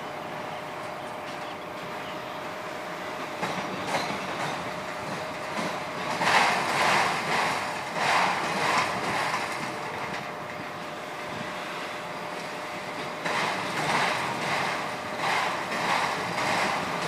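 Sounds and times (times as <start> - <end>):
freight train rolling past: 0.0 - 17.0
wheels clicking over rail joints: 3.2 - 17.0.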